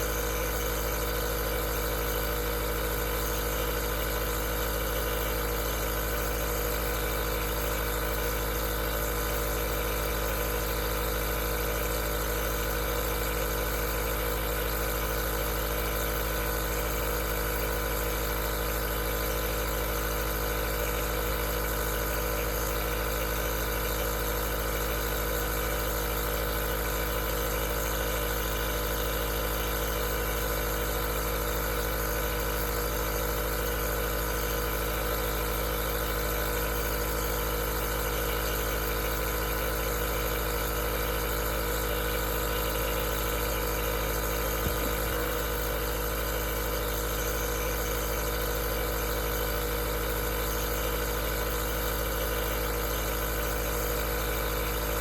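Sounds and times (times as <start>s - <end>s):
compressor motor humming: 0.0s - 55.0s.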